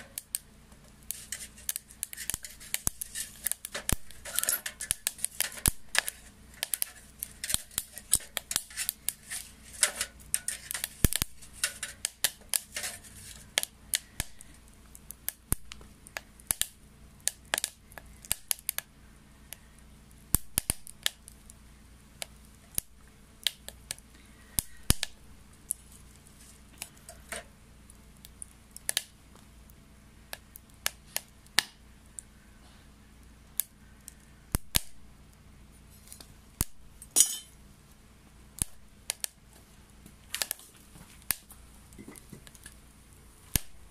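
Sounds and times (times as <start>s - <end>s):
wet wood crackling and popping: 0.0s - 32.3s, 33.1s - 37.2s, 37.9s - 43.9s.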